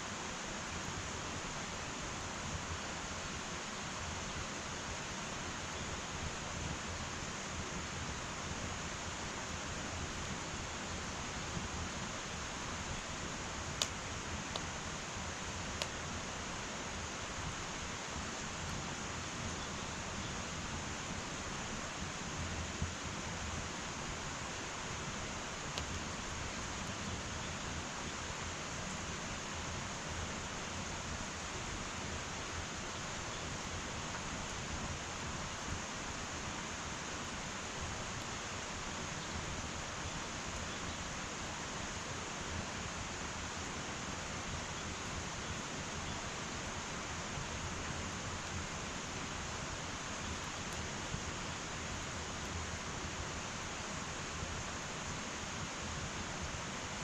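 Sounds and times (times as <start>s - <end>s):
faint fire crackles: 0.0s - 57.0s
wood fire hissing: 0.0s - 57.0s.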